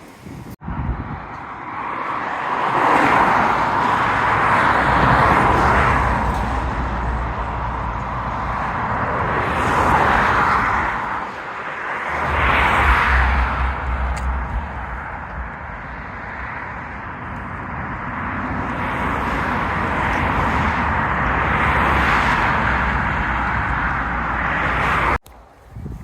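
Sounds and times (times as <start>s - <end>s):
wind rustling grass: 0.0s - 3.0s, 3.6s - 26.0s
wind buffeting microphone: 0.0s - 26.0s.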